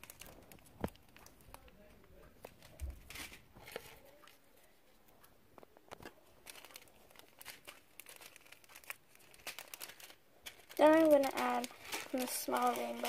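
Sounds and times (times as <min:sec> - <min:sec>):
slime and foam crinkling: 0:00.0 - 0:04.4, 0:05.8 - 0:13.0.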